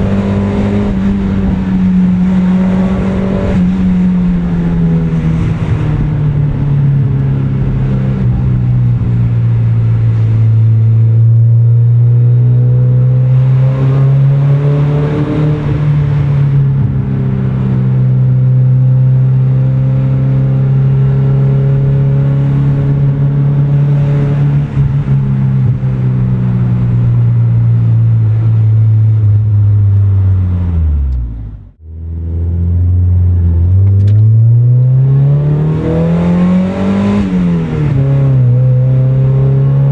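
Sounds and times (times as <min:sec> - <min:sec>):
car engine running: 0:00.0 - 0:13.1, 0:13.8 - 0:34.8.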